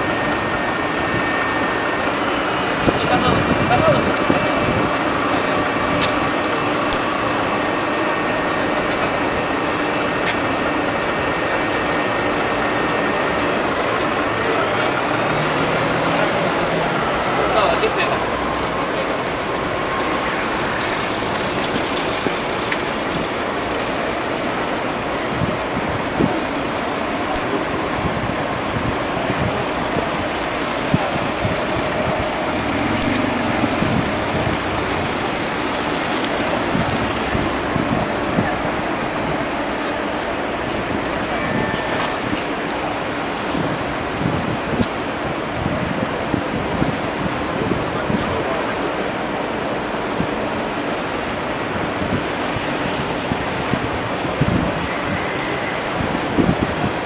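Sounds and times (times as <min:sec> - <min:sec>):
bus engine idling: 0:00.0 - 0:57.0
murmur of large crowd: 0:00.0 - 0:57.0
street traffic noise: 0:00.0 - 0:57.0
wind on microphone: 0:00.8 - 0:09.6, 0:19.1 - 0:57.0.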